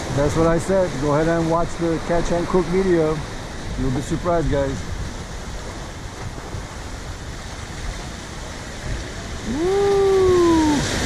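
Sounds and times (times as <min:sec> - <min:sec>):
surf breaking over rocks: 0:00.0 - 0:11.0.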